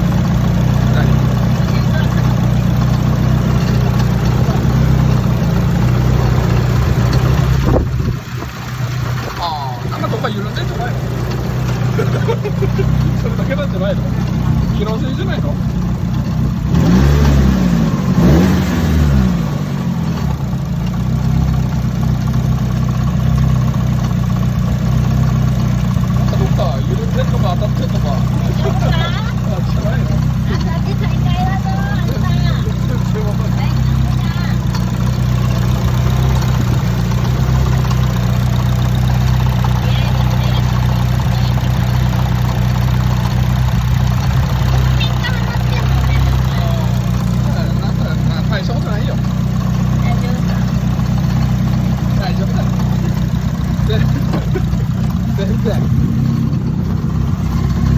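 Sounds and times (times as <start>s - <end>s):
car engine idling and revving: 0.0s - 57.9s.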